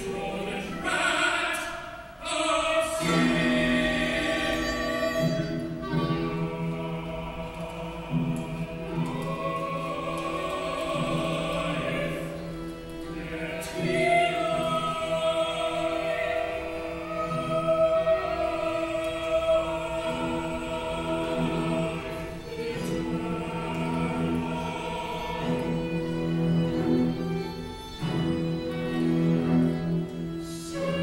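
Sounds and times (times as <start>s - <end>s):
choir singing sustained chords: 0.0s - 31.0s.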